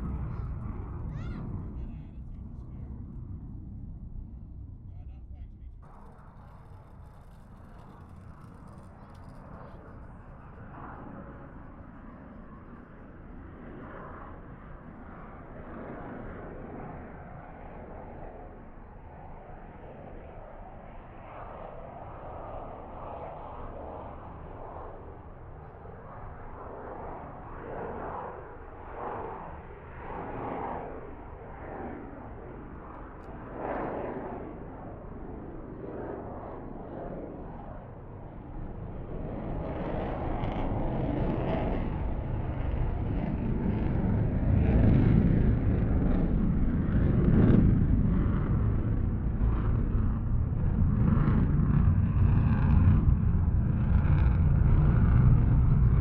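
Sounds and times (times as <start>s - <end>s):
distant jet engine roar: 0.0s - 56.0s.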